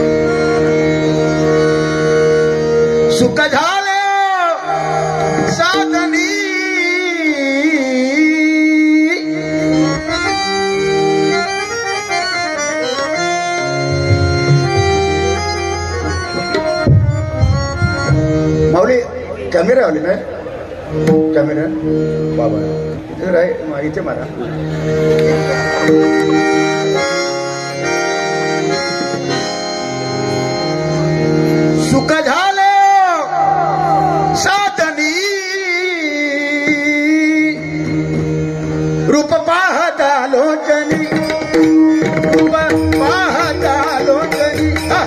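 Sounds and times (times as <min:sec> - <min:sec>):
harmonium melody: 0:00.0 - 0:45.0.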